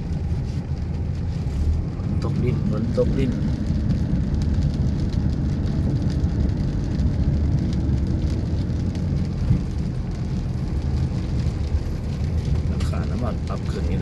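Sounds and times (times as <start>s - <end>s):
raindrop ticks: 0.0s - 14.0s
vehicle rumbling: 0.0s - 14.0s.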